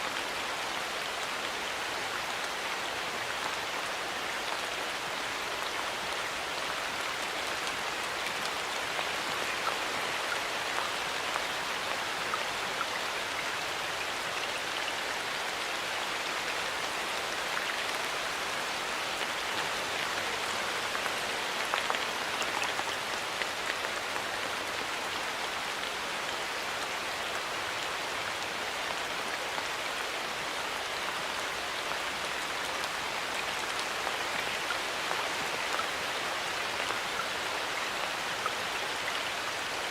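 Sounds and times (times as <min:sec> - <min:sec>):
rain patter in forest: 0:00.0 - 0:39.9.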